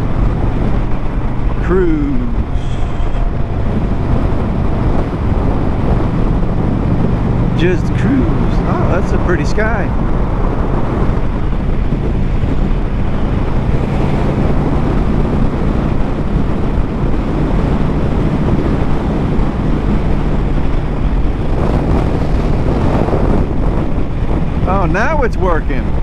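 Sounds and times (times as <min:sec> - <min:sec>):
motorcycle engine humming: 0:00.0 - 0:26.0
wind rushing over microphone: 0:00.0 - 0:26.0.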